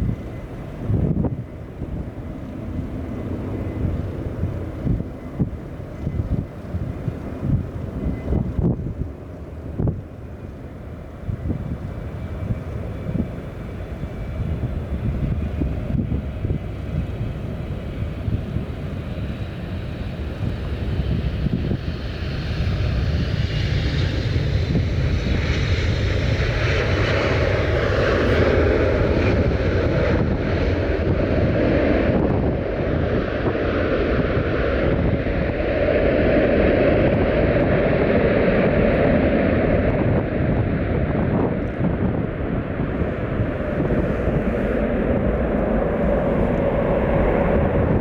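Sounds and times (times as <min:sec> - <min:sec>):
jet airliner engines passing: 0:00.0 - 0:48.0.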